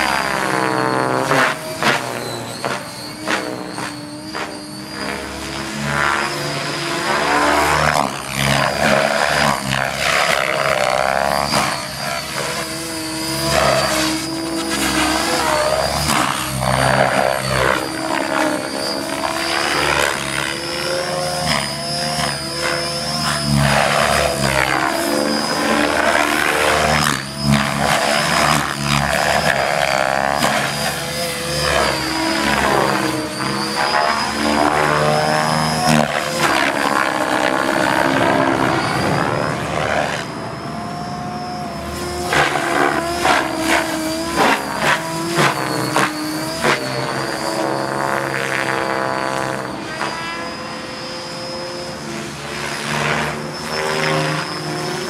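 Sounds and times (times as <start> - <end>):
model helicopter motor whine: 0.0 - 55.0
rotor blades whooshing: 0.0 - 55.0.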